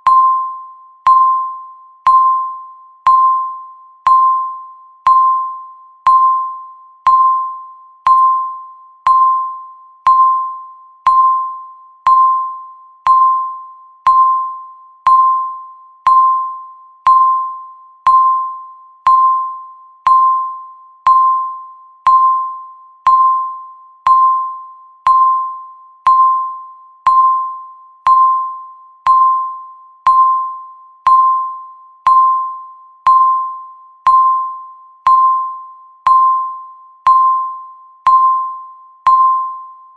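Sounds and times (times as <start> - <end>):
timer ticking with ringing ping: 0.0 - 39.9.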